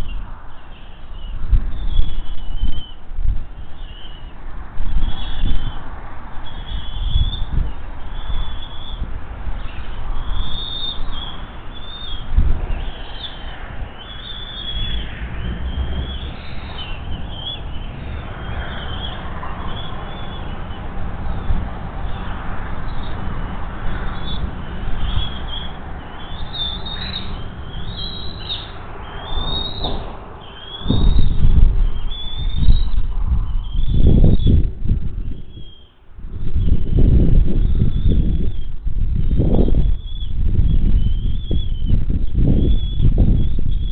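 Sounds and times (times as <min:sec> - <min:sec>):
low rumbling noise: 0:00.0 - 0:43.9
eaglets chirping: 0:06.4 - 0:34.6, 0:35.2 - 0:43.9.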